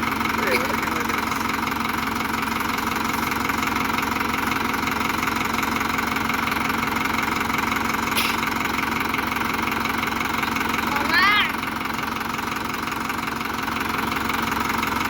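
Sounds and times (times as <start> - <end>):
tractor engine rattling: 0.0 - 15.0.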